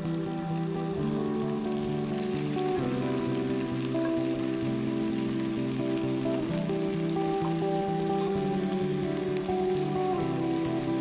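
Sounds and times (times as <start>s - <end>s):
food sizzling in a pot: 0.0s - 11.0s
music with slow held chords: 0.0s - 11.0s.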